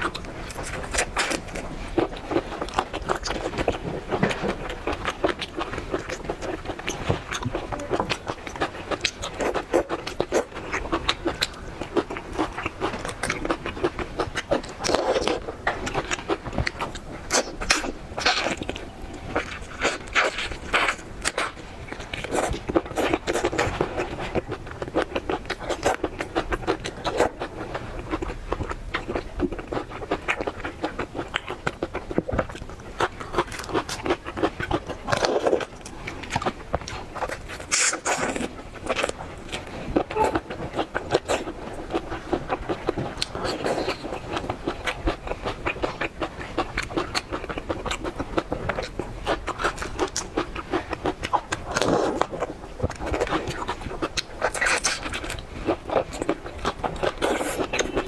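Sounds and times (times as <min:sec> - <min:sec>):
wet chewing and smacking: 0:00.0 - 0:58.0.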